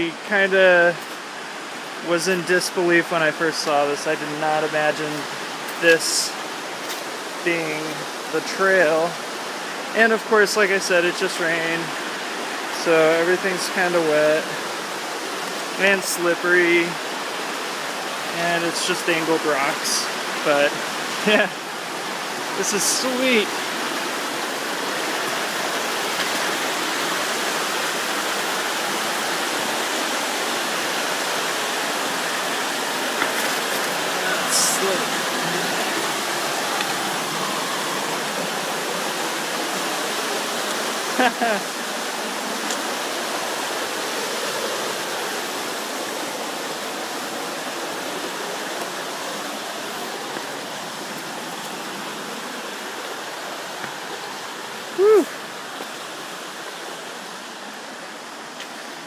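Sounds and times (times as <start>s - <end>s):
river rushing over rapids: 0.0s - 59.0s.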